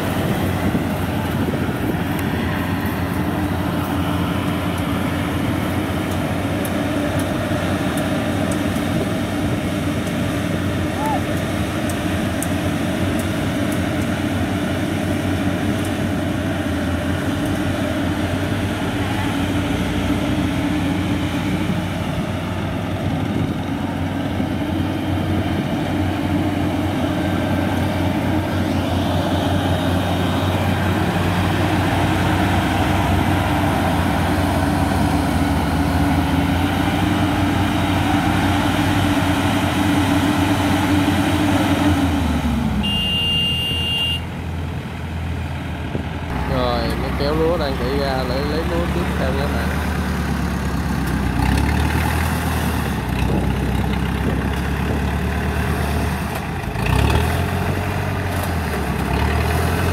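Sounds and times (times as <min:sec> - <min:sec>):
combine harvester diesel engine droning: 0:00.0 - 0:59.9.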